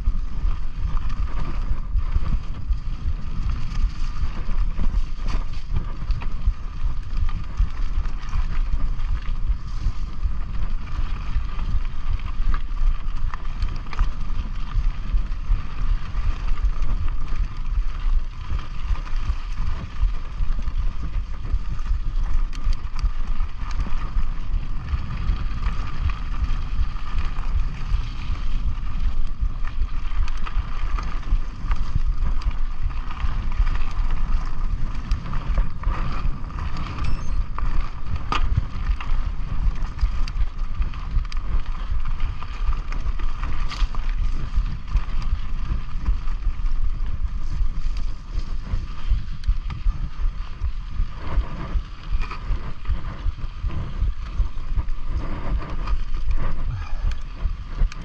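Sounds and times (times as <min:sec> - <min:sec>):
bike rattles and clicks: 0:00.0 - 0:58.0
wind and ride vibration rumble: 0:00.0 - 0:58.0.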